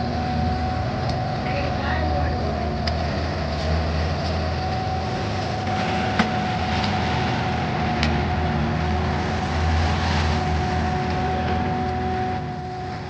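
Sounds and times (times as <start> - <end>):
high whine: 0.0 - 13.0
skid steer engine rumble: 0.0 - 13.0.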